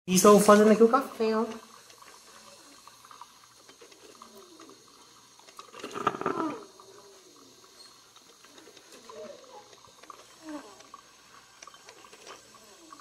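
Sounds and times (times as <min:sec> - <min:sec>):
water running: 0:00.1 - 0:13.0.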